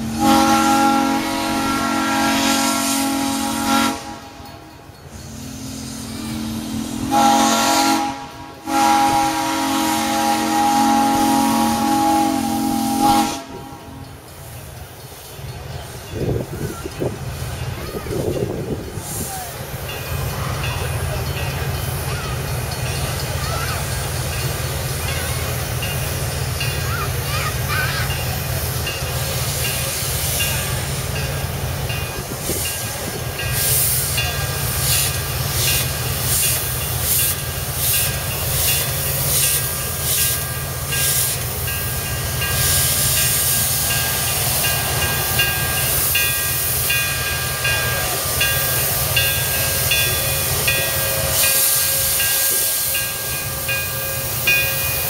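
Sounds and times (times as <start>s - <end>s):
steam hissing: 0.0s - 55.0s
steam locomotive exhaust chuffs: 0.0s - 55.0s.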